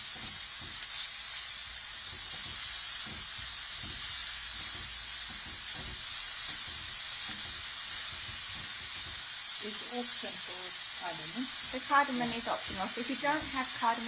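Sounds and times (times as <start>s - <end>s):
onion sizzling in frying pan: 0.0s - 14.0s.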